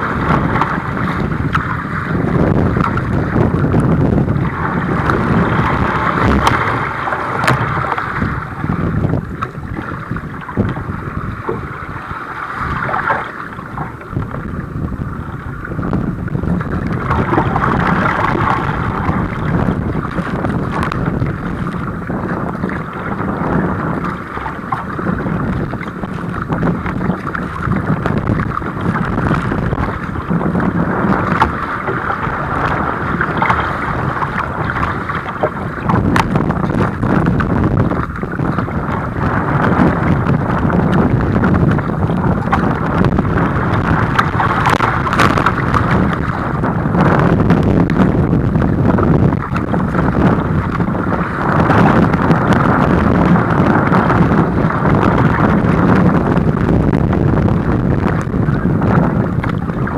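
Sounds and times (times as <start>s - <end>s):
water sloshing and splashing: 0.0s - 59.9s
wind buffeting microphone: 0.0s - 59.9s.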